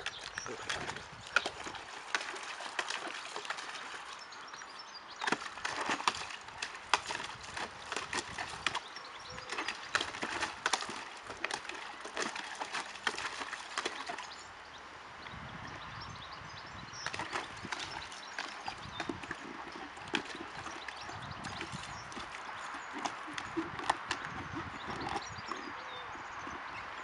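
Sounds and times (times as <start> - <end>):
puppy lapping water: 0.0 - 14.3, 17.1 - 26.8.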